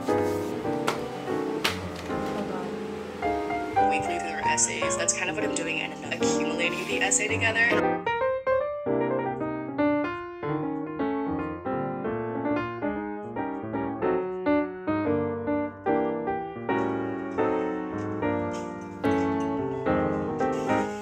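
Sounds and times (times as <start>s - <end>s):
calm piano music: 0.0s - 21.0s.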